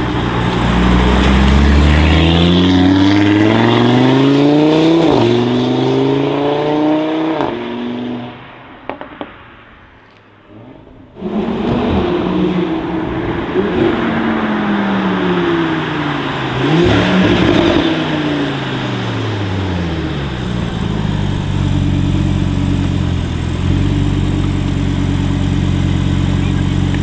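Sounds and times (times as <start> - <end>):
car engine driving past: 0.0 - 27.0.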